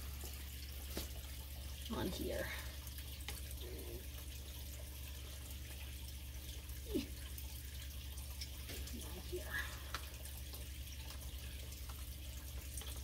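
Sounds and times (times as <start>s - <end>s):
constant low hum: 0.0s - 13.0s
running water: 0.0s - 13.0s.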